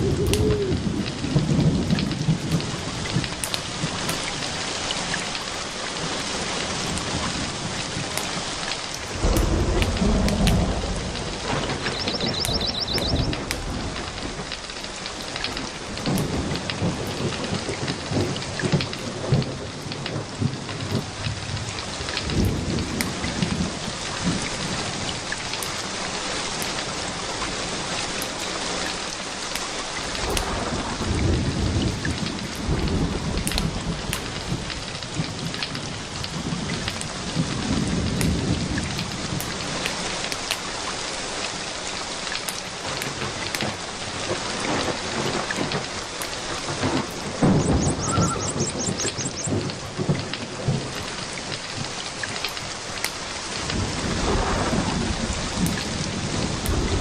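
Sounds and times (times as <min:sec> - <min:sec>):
thunder rumbling: 0:00.0 - 0:29.0, 0:30.0 - 0:40.3, 0:42.7 - 0:57.0
steady rain falling: 0:00.0 - 0:57.0.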